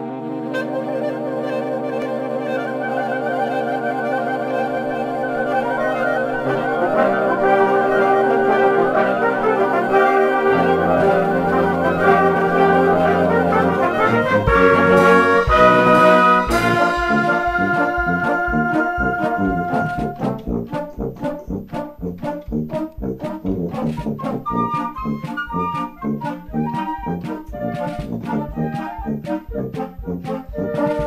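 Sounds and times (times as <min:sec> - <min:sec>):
wind band playing: 0:00.0 - 0:31.0.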